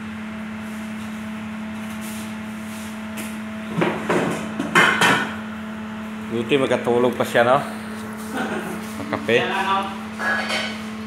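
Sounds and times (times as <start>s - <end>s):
stand fan motor humming: 0.0s - 11.0s.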